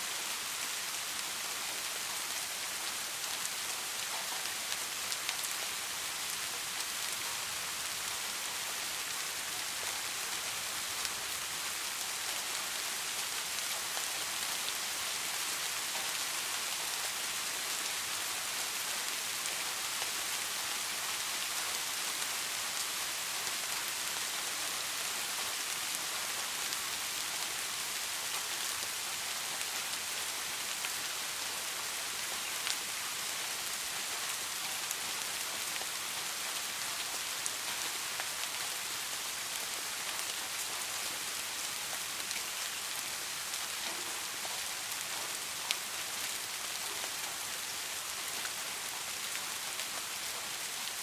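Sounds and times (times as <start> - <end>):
rain falling on a surface: 0.0 - 51.0.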